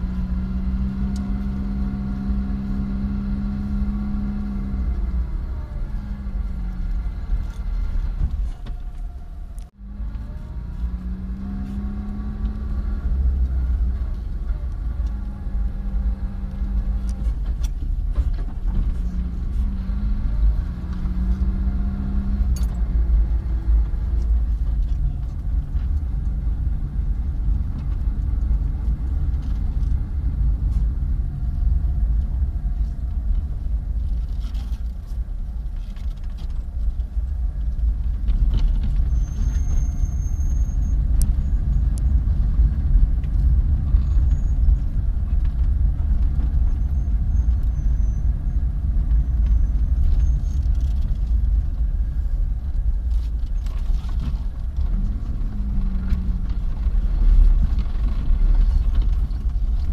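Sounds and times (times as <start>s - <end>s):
car road noise rumble: 0.0s - 59.9s
engine hum: 0.0s - 59.9s.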